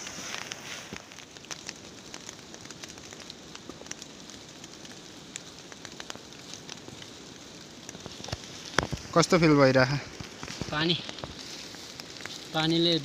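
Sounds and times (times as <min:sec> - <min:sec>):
raindrops ticking on plastic sheets: 0:00.0 - 0:13.0
soft rain hiss: 0:00.0 - 0:13.0.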